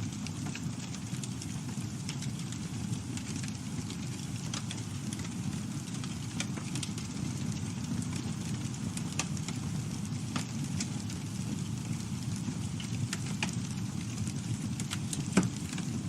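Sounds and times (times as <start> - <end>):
campfire burning: 0.0 - 16.0.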